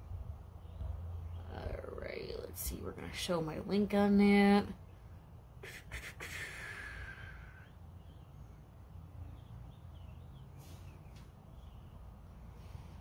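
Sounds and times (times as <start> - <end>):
distant traffic rumble: 0.0 - 13.0
small birds chirping faintly: 0.0 - 13.0.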